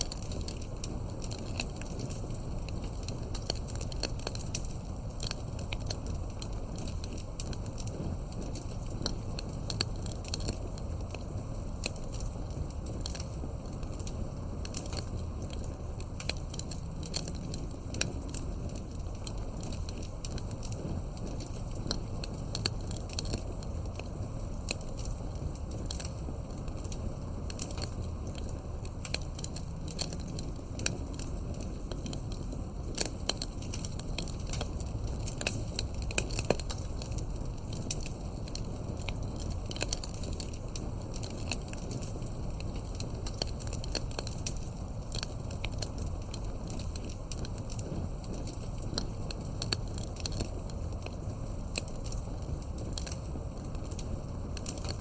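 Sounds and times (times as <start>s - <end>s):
campfire crackling and snapping: 0.0s - 55.0s
fire low rumble: 0.0s - 55.0s
loud fire pops: 0.0s - 55.0s.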